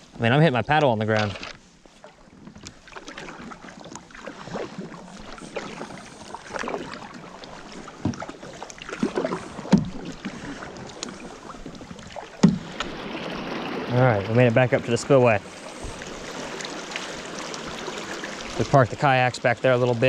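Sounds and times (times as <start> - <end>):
paddle knocking creek bottom: 0.0 - 20.0
paddle strokes splashing: 0.0 - 20.0.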